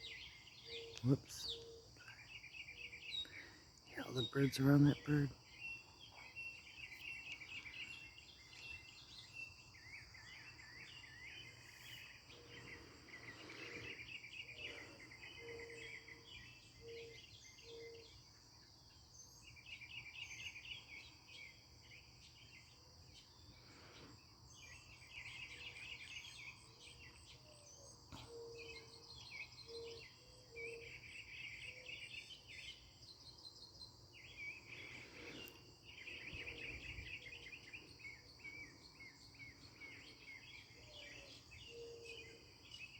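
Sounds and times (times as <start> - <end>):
mockingbird chirping: 0.0 - 18.3, 24.6 - 42.9.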